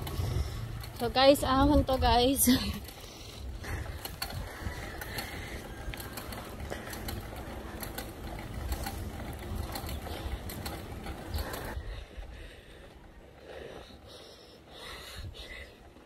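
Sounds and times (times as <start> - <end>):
bicycle drivetrain clicking: 0.0 - 16.0
rumble of wind and tyres: 0.0 - 16.0.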